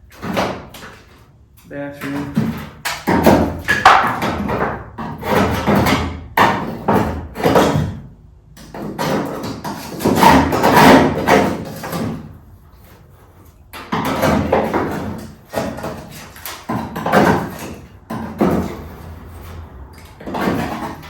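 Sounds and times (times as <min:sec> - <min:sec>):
knocks and scrapes on sheet metal: 0:00.0 - 0:21.0.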